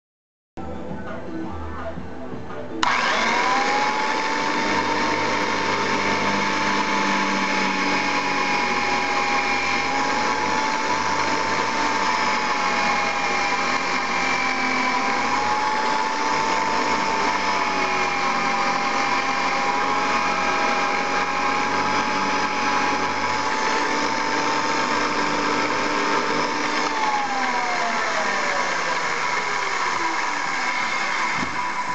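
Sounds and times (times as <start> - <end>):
drill bit boring wood: 2.8 - 31.9
electric saw motor whine: 2.8 - 31.9.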